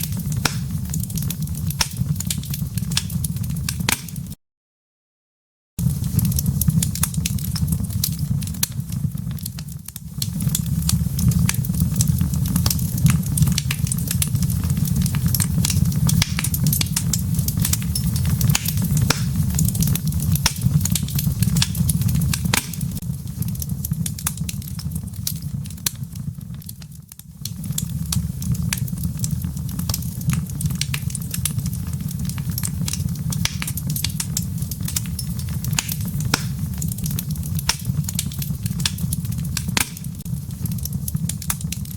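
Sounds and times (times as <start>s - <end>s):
fireplace fire crackling and popping: 0.0s - 4.4s, 5.8s - 41.9s
low rumble of flames: 0.0s - 4.4s, 5.8s - 41.9s.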